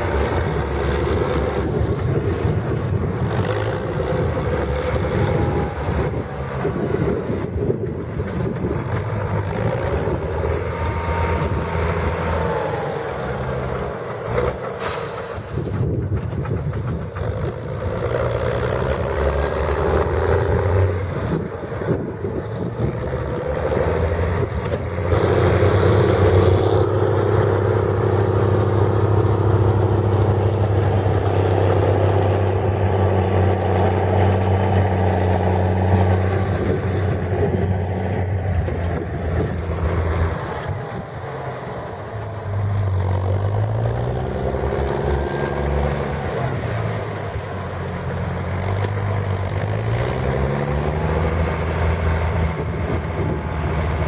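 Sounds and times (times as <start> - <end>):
tractor diesel engine revving: 0.0 - 54.0.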